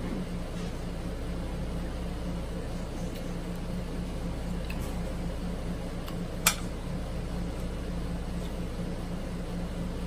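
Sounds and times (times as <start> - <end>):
room hum and hiss: 0.0 - 10.0.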